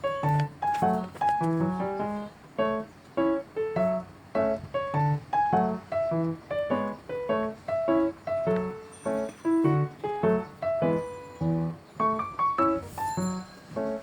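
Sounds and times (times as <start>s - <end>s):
piano melody with chords: 0.0s - 14.0s.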